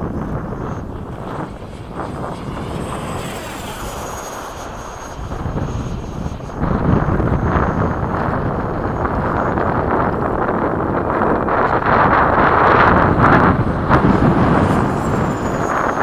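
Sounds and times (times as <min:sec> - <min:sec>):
model jet fan whine passing: 0:00.0 - 0:16.0
wind on microphone: 0:00.0 - 0:16.0.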